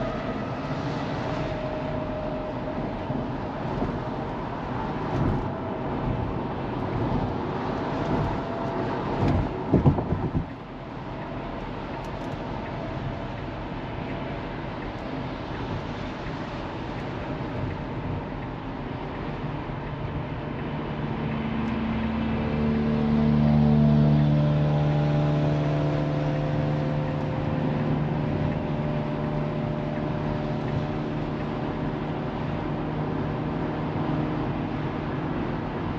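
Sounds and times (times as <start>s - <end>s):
road and tyre noise in car: 0.0s - 35.9s.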